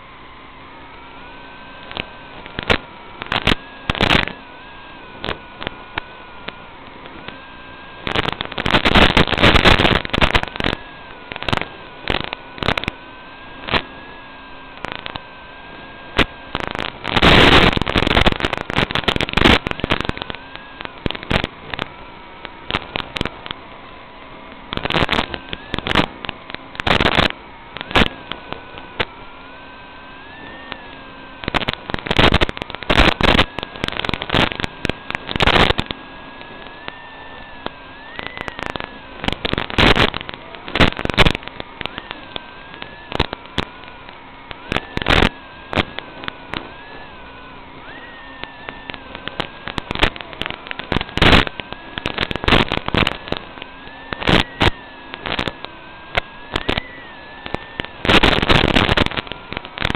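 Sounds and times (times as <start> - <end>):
hiss and hum: 0.0 - 59.9
radio static crackles: 0.0 - 59.9.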